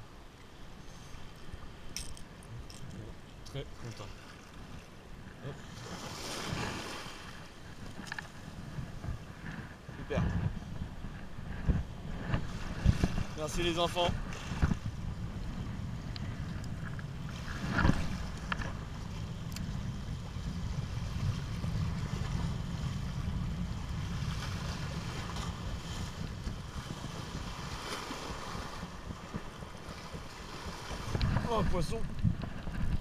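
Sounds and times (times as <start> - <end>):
water lapping: 0.4 - 10.1, 10.8 - 23.2, 23.8 - 33.0
wind buffeting microphone: 1.4 - 33.0.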